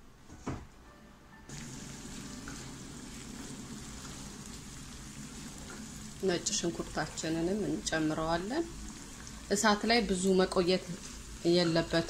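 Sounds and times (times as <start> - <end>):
onions sizzling in frying pan: 1.5 - 12.0
spatula stirring: 1.5 - 12.0.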